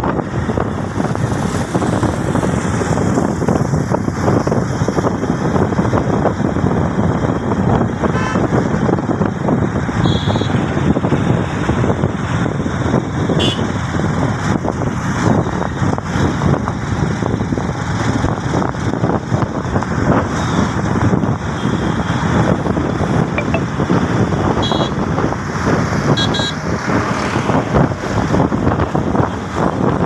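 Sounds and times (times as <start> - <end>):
motorcycle and car engines: 0.0 - 30.0
wind and road noise: 0.0 - 30.0.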